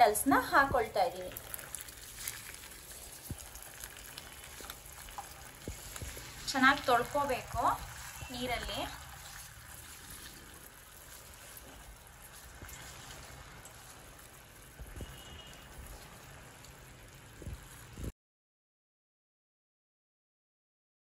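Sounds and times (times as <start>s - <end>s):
syrup simmering hiss: 0.0s - 18.1s.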